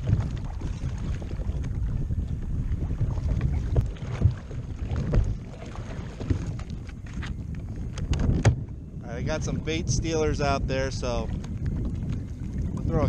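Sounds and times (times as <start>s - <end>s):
water lapping against kayak hull: 0.0s - 13.0s
wind gusting over microphone: 0.0s - 13.0s.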